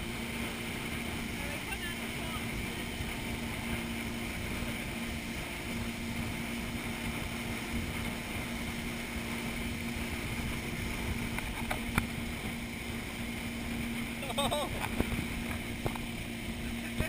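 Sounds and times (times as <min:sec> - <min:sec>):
motorboat engine running: 0:00.0 - 0:17.0
rush of boat wake: 0:00.0 - 0:17.0
wind on microphone: 0:00.0 - 0:17.0.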